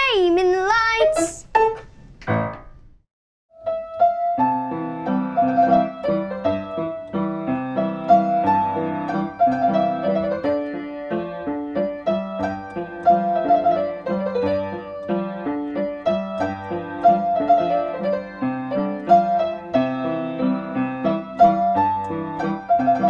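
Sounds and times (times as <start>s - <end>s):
piano piece: 0.8s - 23.0s.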